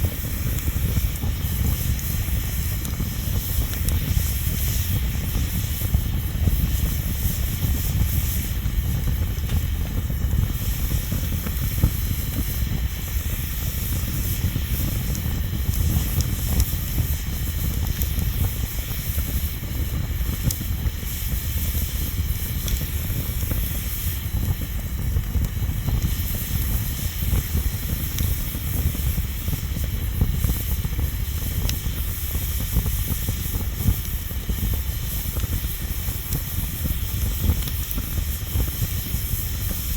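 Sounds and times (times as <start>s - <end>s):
bonfire rumble and hiss: 0.0s - 39.9s
fire pops: 0.0s - 39.9s.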